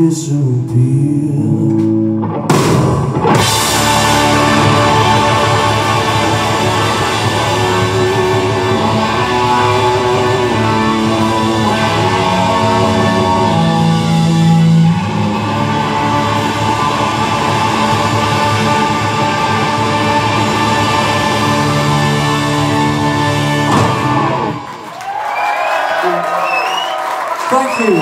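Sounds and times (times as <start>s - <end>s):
electric guitars: 0.0s - 26.8s
drum kit: 1.7s - 24.6s.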